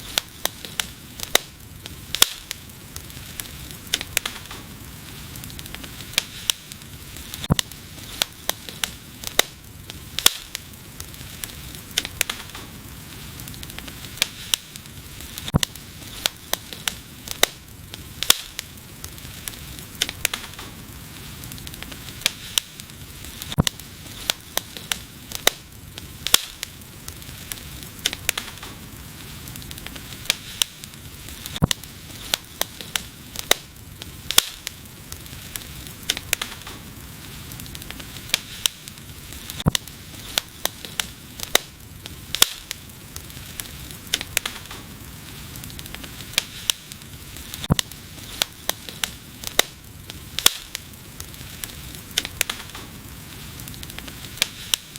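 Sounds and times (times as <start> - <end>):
fire crackling and popping: 0.0 - 54.9
fire hissing: 0.0 - 54.9.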